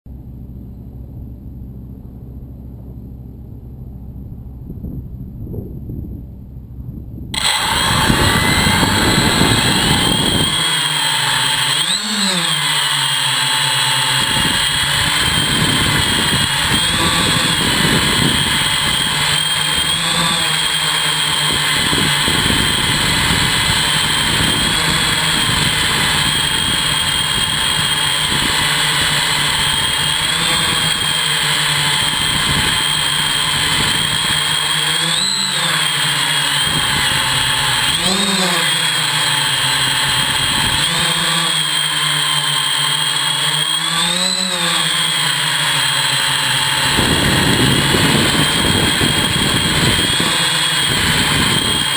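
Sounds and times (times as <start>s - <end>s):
drone motors and propellers whining: 7.3s - 51.9s.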